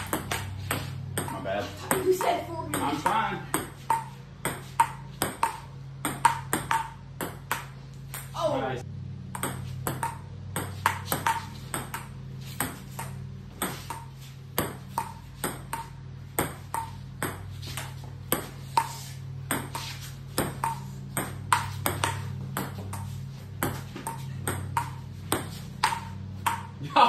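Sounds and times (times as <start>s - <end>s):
table tennis ball pings: 0.0s - 8.4s, 9.2s - 26.8s
steady low hum: 0.0s - 27.0s.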